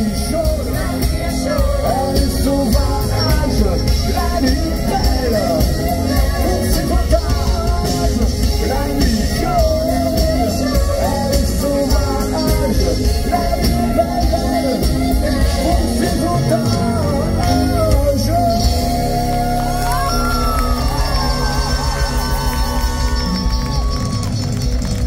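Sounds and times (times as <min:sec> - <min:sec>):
bass: 0:00.0 - 0:25.0
drums: 0:00.0 - 0:25.0.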